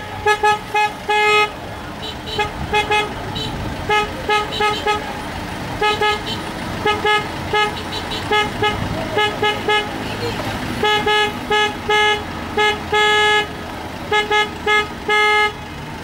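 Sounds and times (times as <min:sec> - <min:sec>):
car horn short beeps: 0:00.0 - 0:05.2, 0:05.8 - 0:13.5, 0:14.1 - 0:15.7
low traffic rumble: 0:00.0 - 0:16.0.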